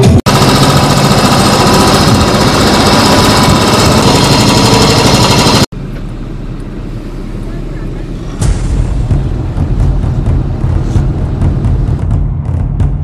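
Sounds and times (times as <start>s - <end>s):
motorcycle engine running: 0.0s - 6.2s, 8.4s - 13.0s.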